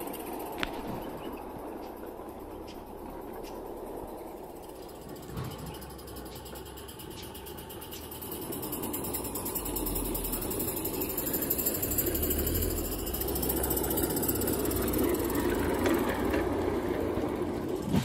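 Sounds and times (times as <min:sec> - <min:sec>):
model steam locomotive running: 0:00.0 - 0:18.0.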